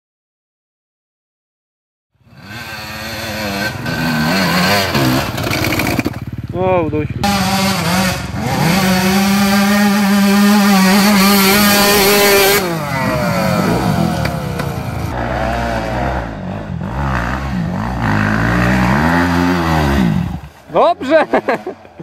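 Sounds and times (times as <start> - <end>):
motorcycle engines revving: 2.2 - 22.0.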